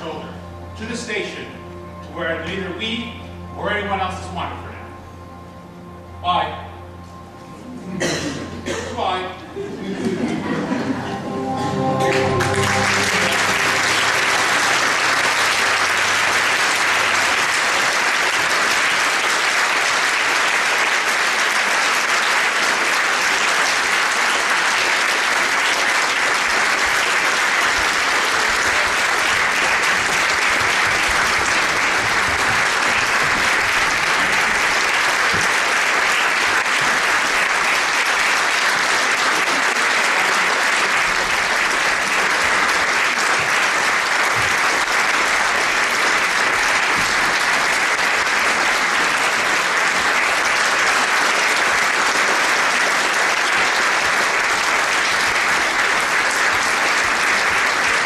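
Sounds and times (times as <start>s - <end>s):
audience applauding: 9.9s - 58.0s.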